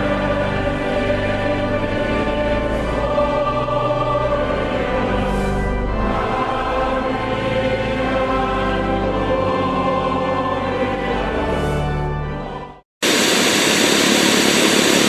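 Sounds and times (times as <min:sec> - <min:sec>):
choir singing held chords: 0:00.0 - 0:12.8.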